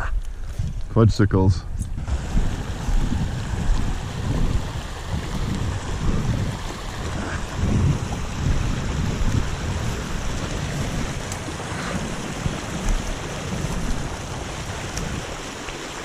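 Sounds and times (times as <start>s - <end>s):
low rumbling on microphone: 0.0s - 15.5s
running water in a stream: 0.1s - 16.0s.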